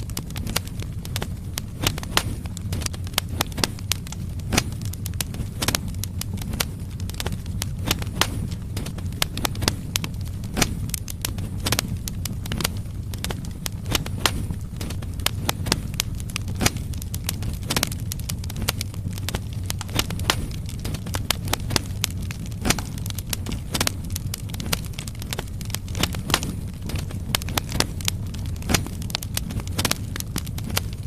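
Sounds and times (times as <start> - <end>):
logs crackling and popping: 0.0 - 31.0
low rumble of flames: 0.0 - 31.0.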